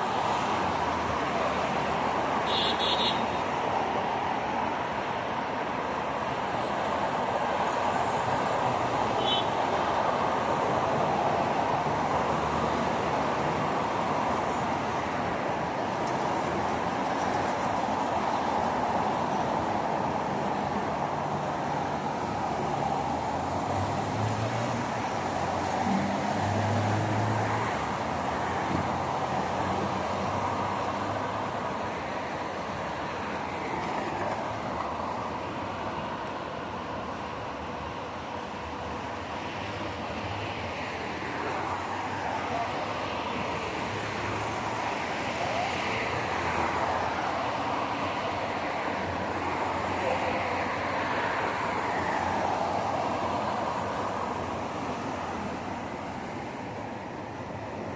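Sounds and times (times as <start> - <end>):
road traffic passing: 0.0 - 57.9.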